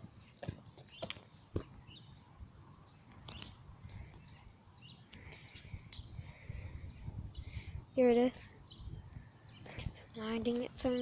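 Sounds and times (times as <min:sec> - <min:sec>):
low rumble of wind: 0:00.0 - 0:11.0.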